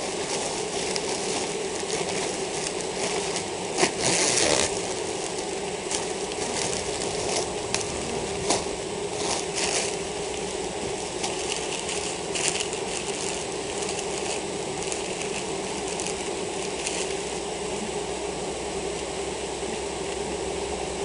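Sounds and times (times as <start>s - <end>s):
rustles and crackles: 0.0s - 17.9s
honeybees buzzing: 0.0s - 21.0s.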